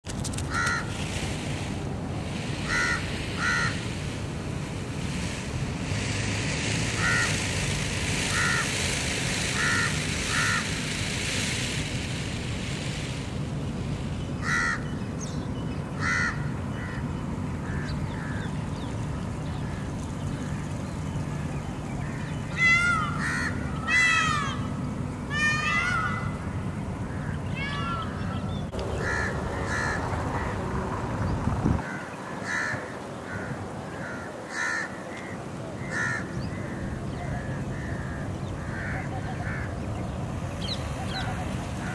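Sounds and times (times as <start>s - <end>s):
birds calling: 0.1s - 41.9s.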